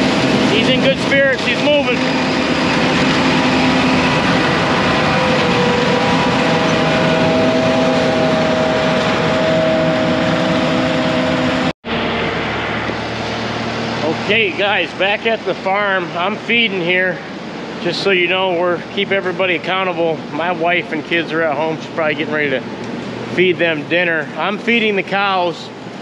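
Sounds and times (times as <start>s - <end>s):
combine harvester running: 0.0s - 26.0s
steady tones: 0.0s - 26.0s.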